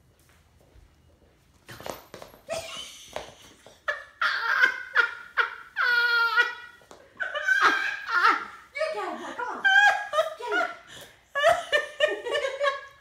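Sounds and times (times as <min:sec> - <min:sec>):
woman laughing hard: 0:02.5 - 0:13.0.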